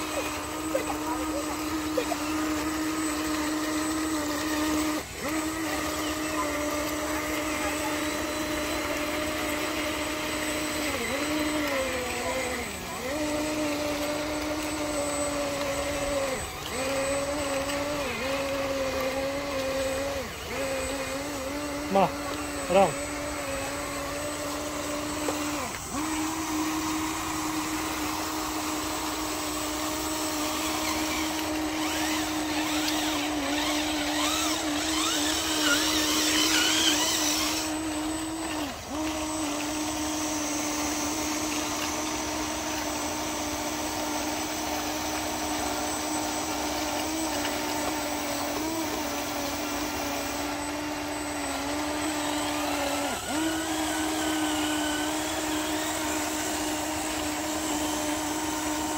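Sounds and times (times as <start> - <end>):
loud hissing rattle: 0.0 - 58.9
small electric motors whining: 0.0 - 58.9.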